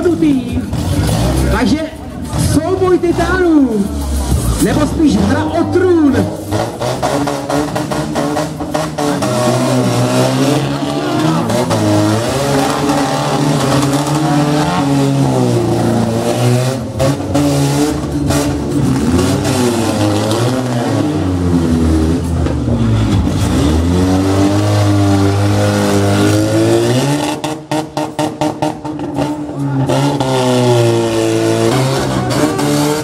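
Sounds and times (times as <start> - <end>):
car engines revving hard: 0.0 - 33.0.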